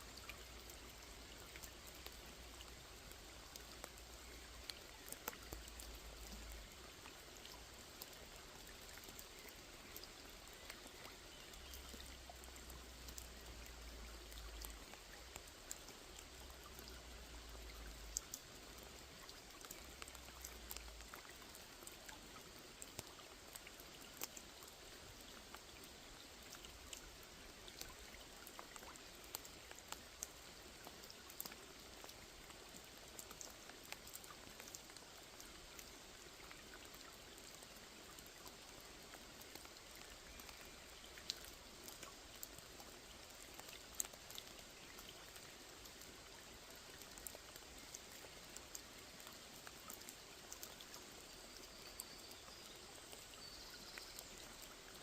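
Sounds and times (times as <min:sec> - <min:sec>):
raindrops pattering on water: 0:00.0 - 0:55.0.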